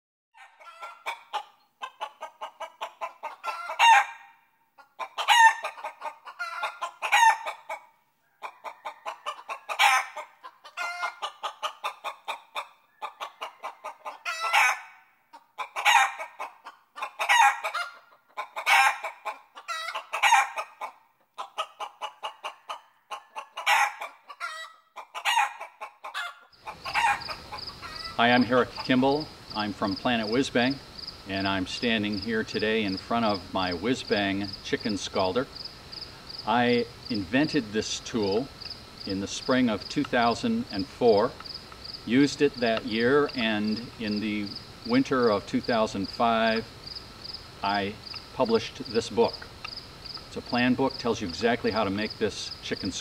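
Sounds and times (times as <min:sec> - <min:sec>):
chickens clucking and squawking: 0:00.4 - 0:53.0.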